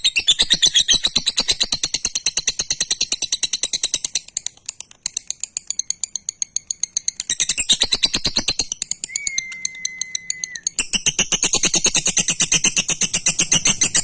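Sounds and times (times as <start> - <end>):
lovebird chattering trill: 0.1 - 14.0.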